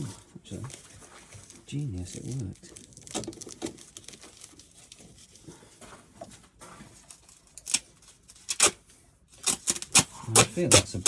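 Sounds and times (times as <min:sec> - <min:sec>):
scraping and rustling handling noises: 0:00.0 - 0:09.5.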